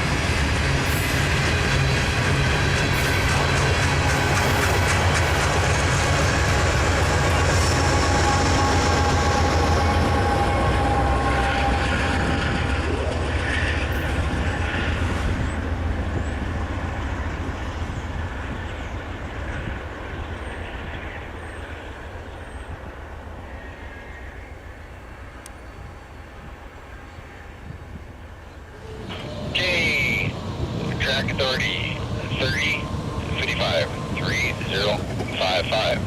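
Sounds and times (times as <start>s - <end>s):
train rolling by: 0.0s - 36.0s.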